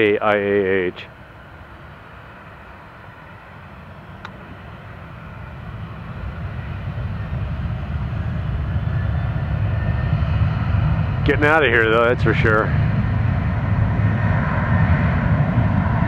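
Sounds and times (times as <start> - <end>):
jet engines low rumble: 0.0 - 16.0.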